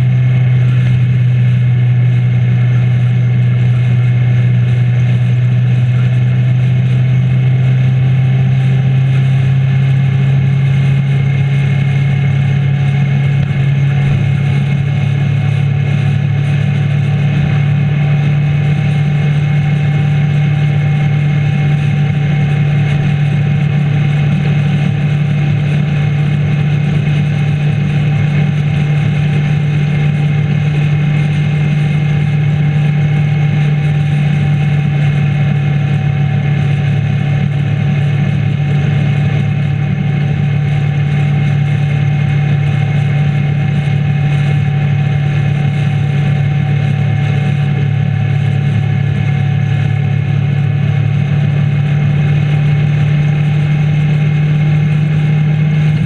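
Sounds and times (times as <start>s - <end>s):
motorcycle engine droning: 0.0s - 56.0s
wind and road noise: 0.0s - 56.0s.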